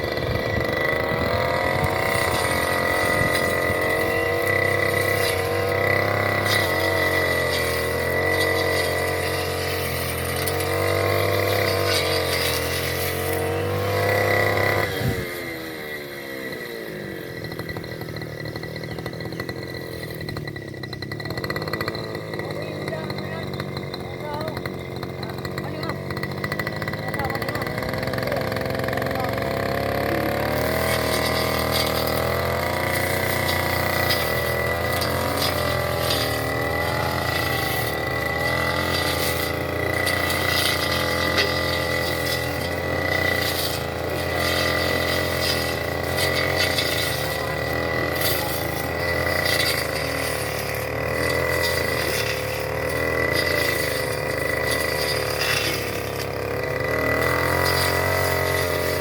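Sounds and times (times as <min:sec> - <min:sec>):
brush cutter engine running: 0:00.0 - 0:59.0.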